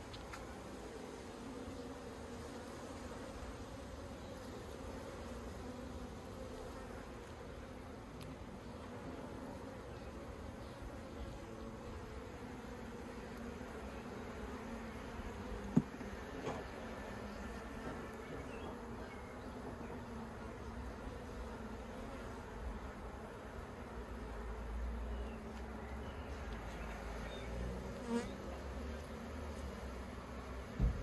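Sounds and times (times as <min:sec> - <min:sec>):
honeybees humming: 0:00.1 - 0:31.0.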